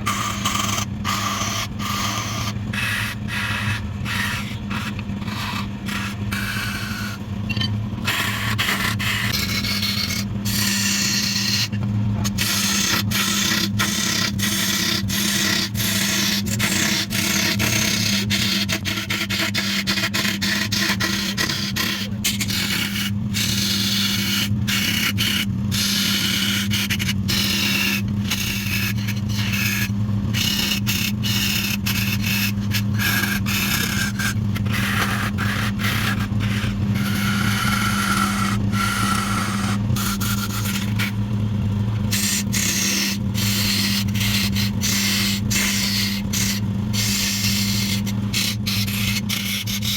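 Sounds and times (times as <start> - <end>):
tool scraping spinning wood: 0.0 - 49.9
wood lathe motor hum: 8.0 - 49.9.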